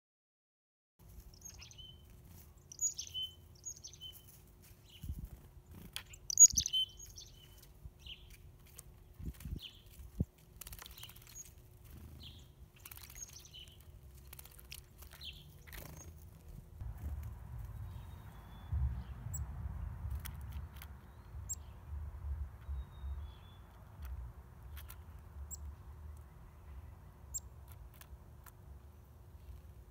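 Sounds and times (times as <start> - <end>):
songbirds chirping: 1.0 - 29.9.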